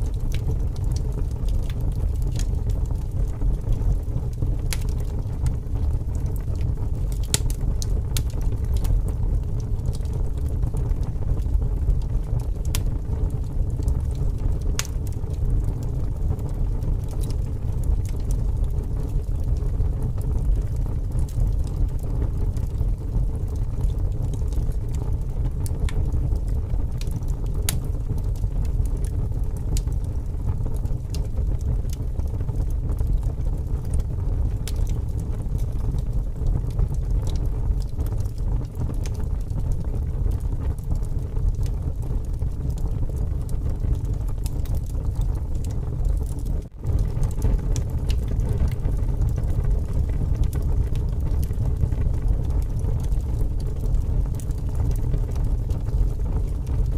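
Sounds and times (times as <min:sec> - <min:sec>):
fire crackling and popping: 0:00.0 - 0:56.9
wind rumbling: 0:00.0 - 0:56.9.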